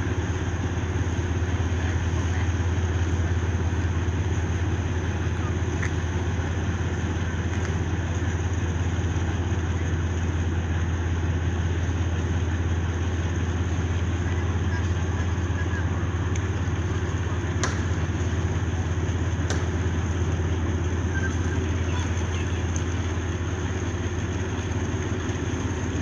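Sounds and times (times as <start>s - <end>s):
ship diesel engine droning: 0.0s - 26.0s.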